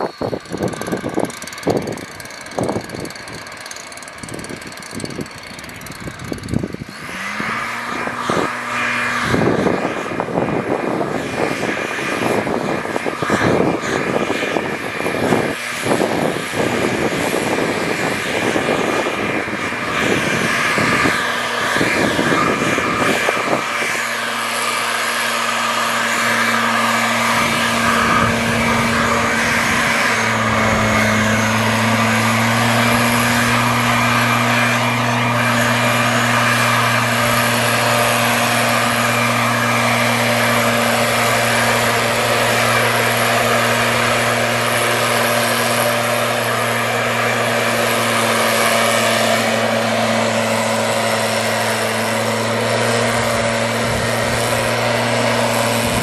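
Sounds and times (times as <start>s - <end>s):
loud rush of air: 0.0s - 56.0s
mist blower engine: 0.0s - 56.0s.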